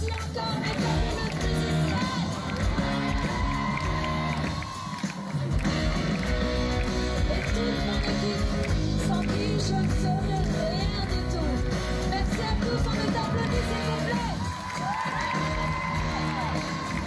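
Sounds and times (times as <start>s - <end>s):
pop-rock music with singing: 0.0s - 17.0s.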